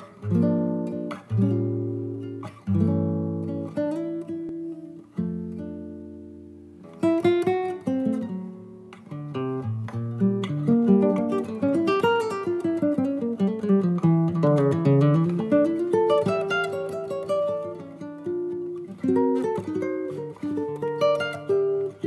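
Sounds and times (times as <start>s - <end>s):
classical guitar playing: 0.0s - 22.0s.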